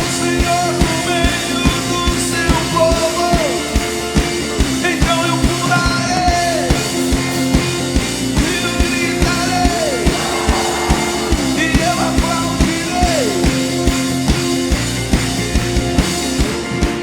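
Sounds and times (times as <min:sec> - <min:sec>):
live band playing upbeat song: 0:00.0 - 0:17.0
steady drum beat: 0:00.0 - 0:17.0.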